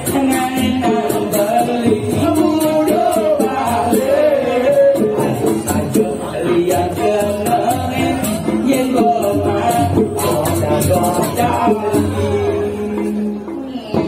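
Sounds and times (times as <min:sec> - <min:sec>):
steady beat: 0:00.0 - 0:14.0.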